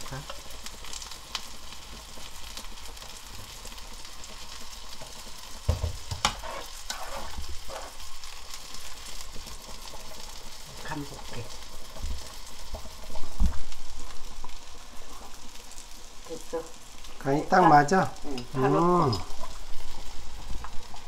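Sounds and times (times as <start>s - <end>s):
soup boiling and bubbling: 0.0s - 21.0s.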